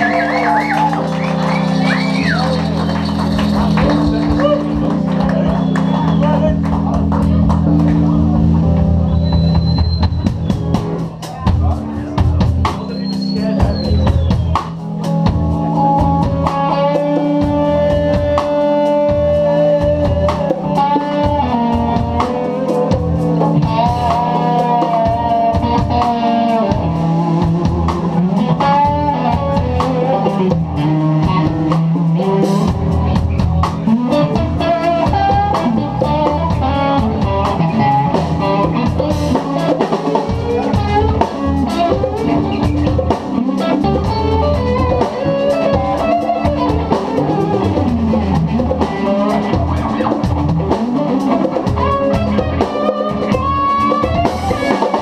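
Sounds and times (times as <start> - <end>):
drum kit: 0.0 - 55.0
electric bass: 0.0 - 55.0
electric guitar lead: 0.0 - 55.0
percussion: 0.0 - 55.0.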